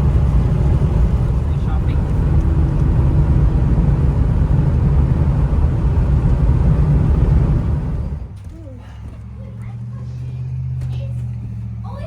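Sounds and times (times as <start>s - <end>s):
vehicle driving on road: 0.0s - 12.0s.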